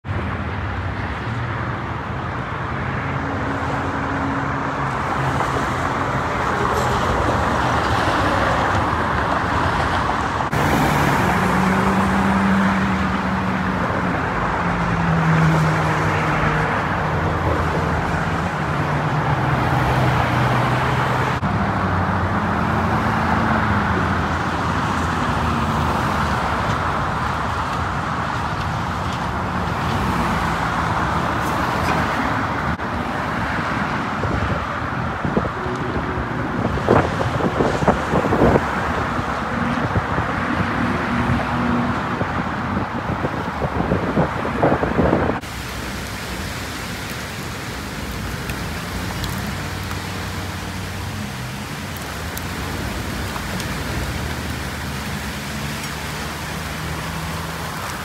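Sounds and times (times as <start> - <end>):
cars driving past: 0.0 - 58.0
tyre hiss and engine hum: 0.4 - 58.0.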